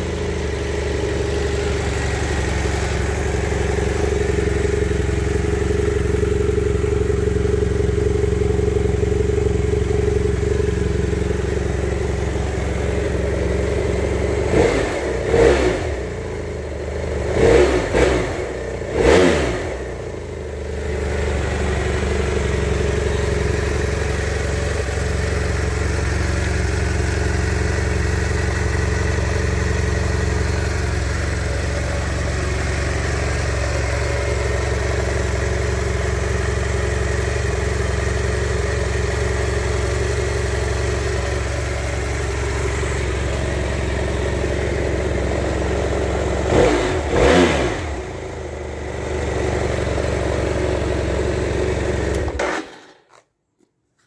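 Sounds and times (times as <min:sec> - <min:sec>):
motorcycle engine idling and revving: 0:00.0 - 0:53.3.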